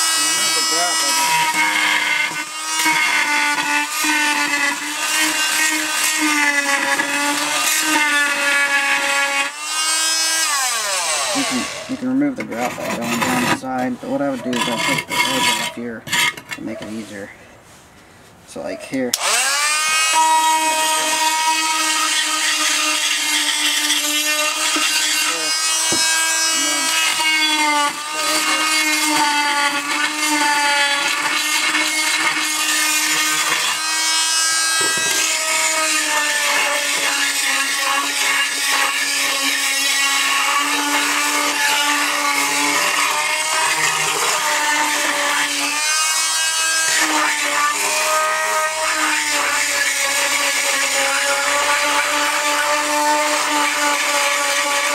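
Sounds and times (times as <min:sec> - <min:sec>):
oscillating multi-tool whining: 0:00.0 - 0:12.0, 0:19.2 - 0:54.9
blade grinding tile grout: 0:00.0 - 0:17.3, 0:19.1 - 0:54.9.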